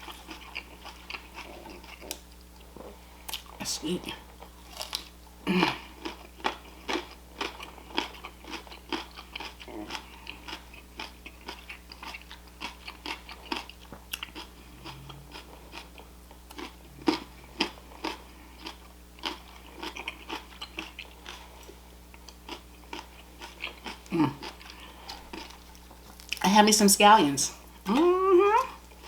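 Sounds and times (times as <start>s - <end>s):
person chewing crunchy food: 0.0s - 26.4s.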